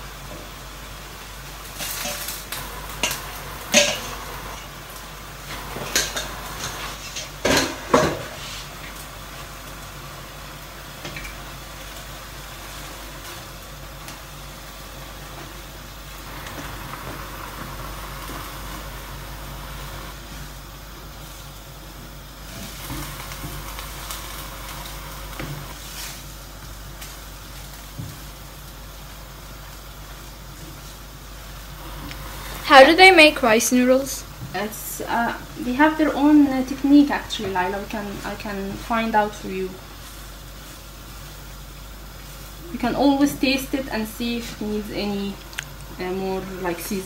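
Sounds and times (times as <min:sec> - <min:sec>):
food sizzling in a wok: 0:00.0 - 0:47.0.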